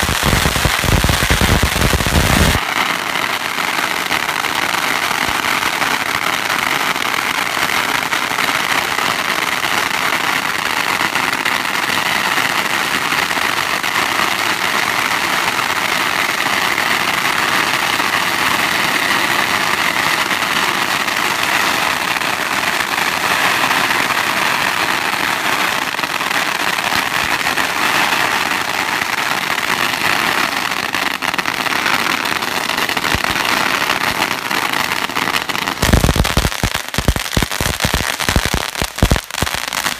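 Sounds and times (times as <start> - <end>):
firecrackers popping rapidly: 0.0 - 39.9.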